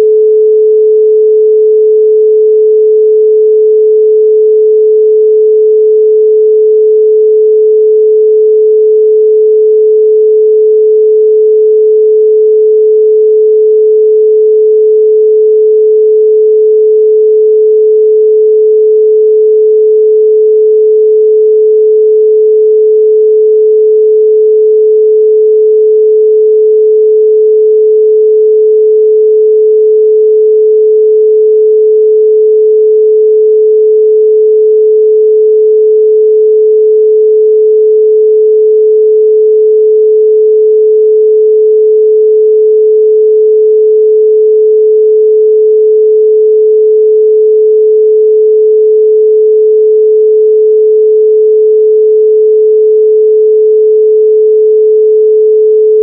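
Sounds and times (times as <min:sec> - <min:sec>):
pure sine tone: 0:00.0 - 0:56.0.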